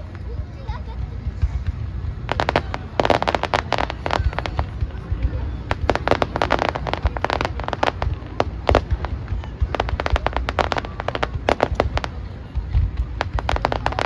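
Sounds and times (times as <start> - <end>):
fireworks cracking: 0.0 - 14.0
steady low rumble: 0.0 - 14.0.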